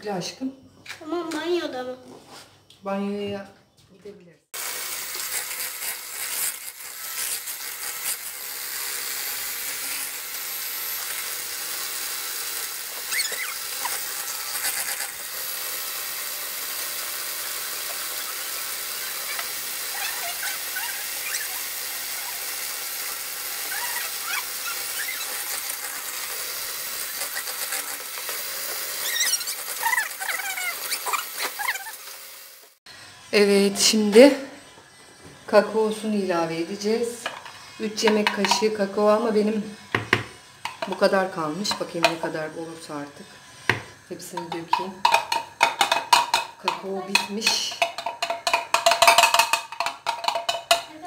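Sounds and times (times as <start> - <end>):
electric hand mixer whine: 4.6 - 50.8.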